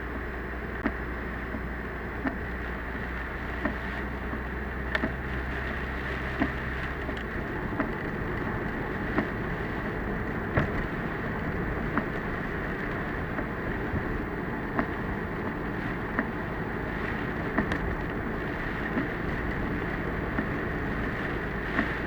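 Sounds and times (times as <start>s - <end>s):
road and rain noise in car: 0.0s - 22.0s.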